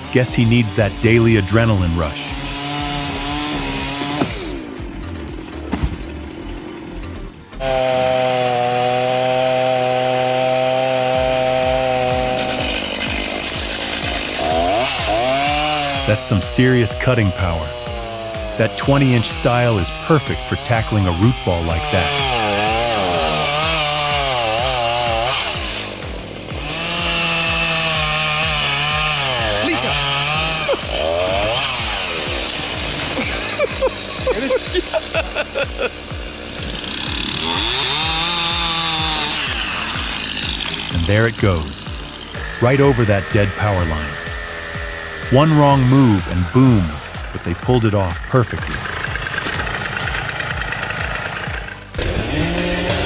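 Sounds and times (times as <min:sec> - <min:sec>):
chainsaw cutting: 0:00.0 - 0:53.0.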